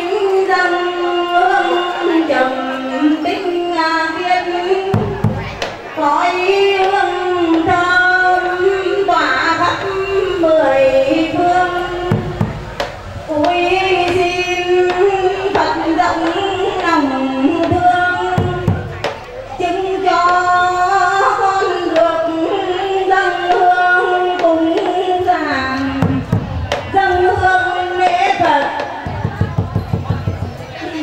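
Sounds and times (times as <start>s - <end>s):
women chanting over loudspeaker: 0.0s - 31.0s.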